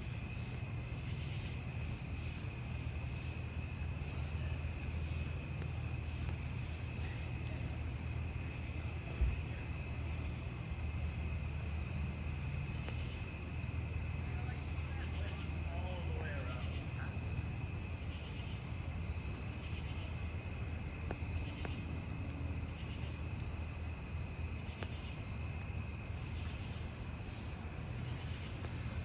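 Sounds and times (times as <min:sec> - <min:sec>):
campfire burning and crackling: 0:00.0 - 0:29.0
crickets trilling: 0:00.0 - 0:29.0.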